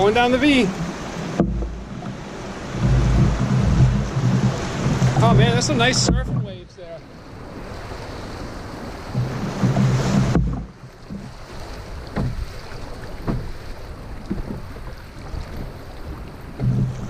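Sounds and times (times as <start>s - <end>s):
short water splashes: 0.0s - 17.0s
water rushing around canoe: 0.0s - 17.0s
wind buffeting microphone: 0.0s - 17.0s.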